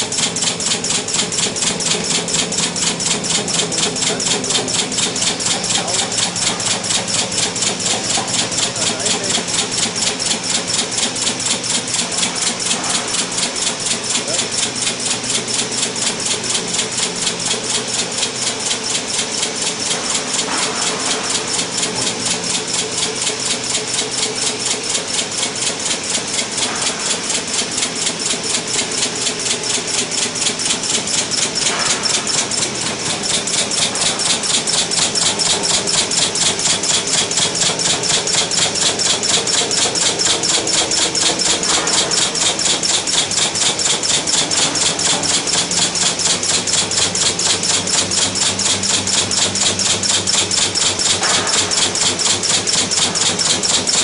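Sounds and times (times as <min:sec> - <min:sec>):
industrial machine pulsing: 0:00.0 - 0:54.0.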